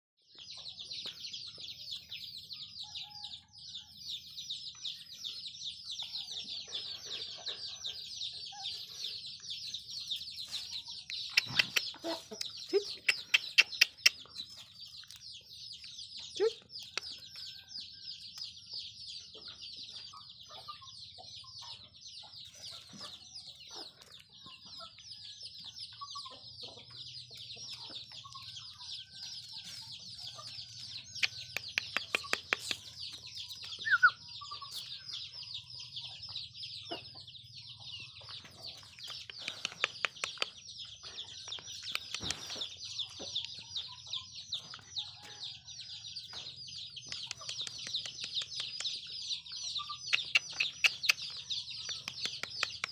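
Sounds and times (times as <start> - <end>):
chicks peeping: 0.3 - 52.9.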